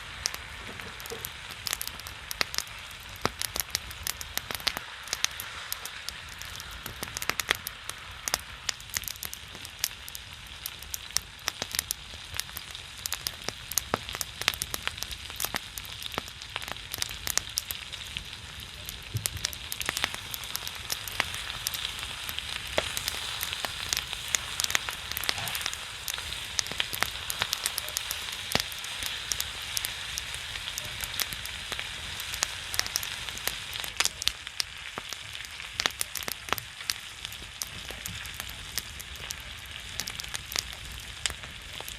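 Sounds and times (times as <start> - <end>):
fire popping and crackling: 0.0 - 41.9
pork fat sizzling: 0.0 - 41.9.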